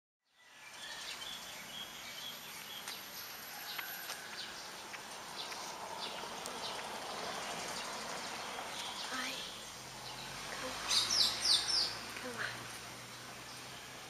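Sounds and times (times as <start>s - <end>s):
high bird chirps: 0.3s - 14.0s.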